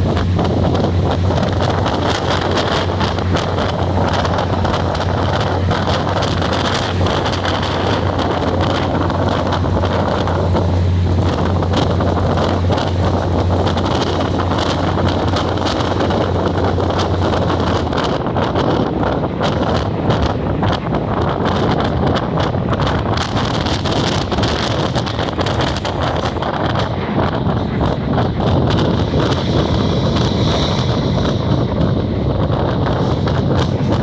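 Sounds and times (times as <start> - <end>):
train rumbling: 0.0 - 34.0
wind buffeting microphone: 0.0 - 34.0.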